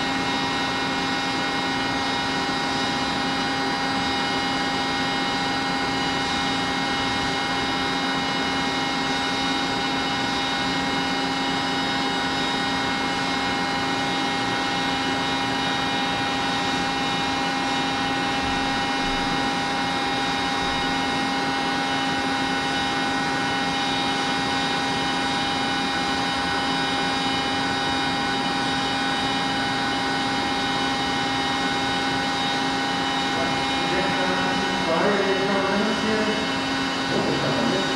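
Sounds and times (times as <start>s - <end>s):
testing machine mechanical hum: 0.0s - 37.9s.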